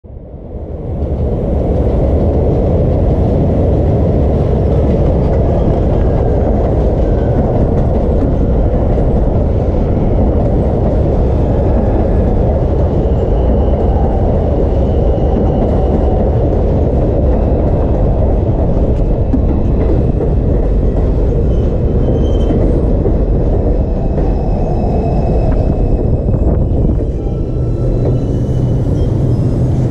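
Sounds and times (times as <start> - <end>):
train wheels rumbling on rails: 0.1 - 29.9.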